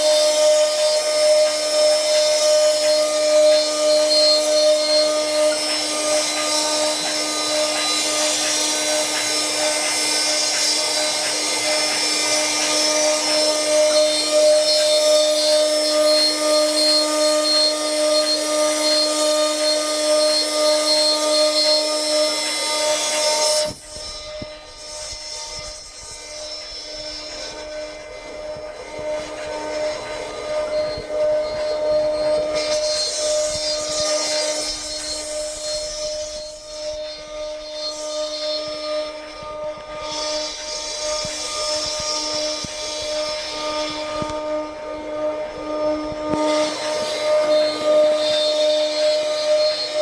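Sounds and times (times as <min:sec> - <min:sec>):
cutting hiss: 0:00.0 - 0:50.0
machine whine: 0:00.0 - 0:50.0.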